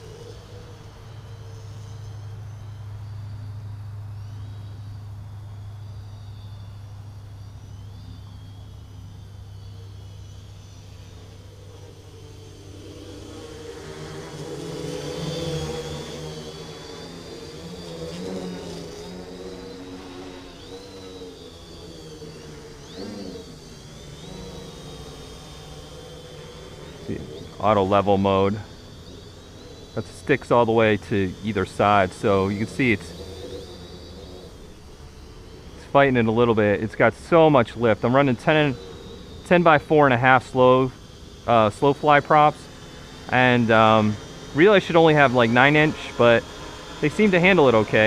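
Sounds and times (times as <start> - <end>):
quadcopter motors buzzing: 0.0 - 48.0.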